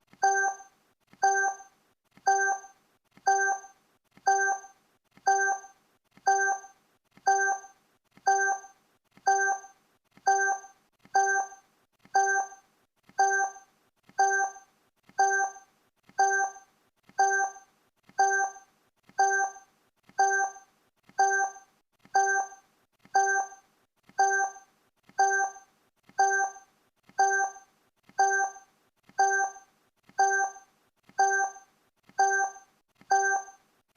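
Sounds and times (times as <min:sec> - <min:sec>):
electronic timer ticks: 0:00.1 - 0:33.7.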